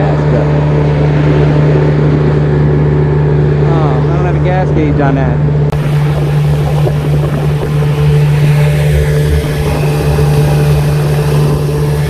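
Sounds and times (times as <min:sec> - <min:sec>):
outboard motor running: 0:00.0 - 0:12.0
wind and water rushing: 0:00.0 - 0:12.0.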